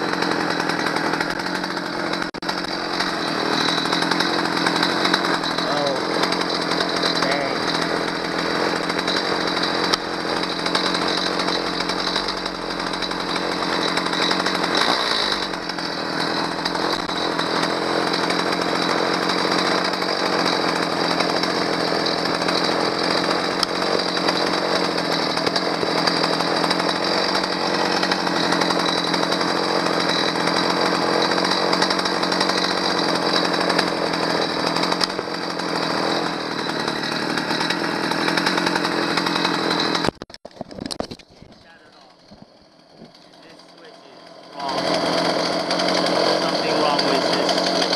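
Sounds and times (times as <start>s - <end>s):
chainsaw engine running: 0.0s - 47.9s.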